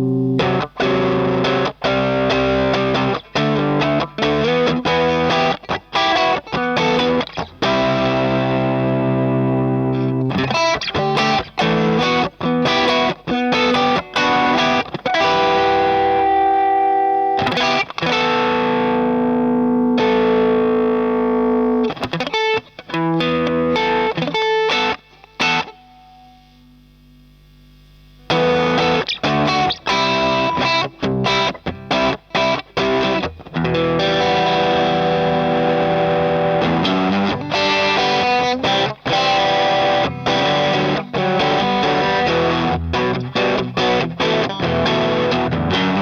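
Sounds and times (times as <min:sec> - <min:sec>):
distorted electric guitar chords: 0:00.0 - 0:46.0.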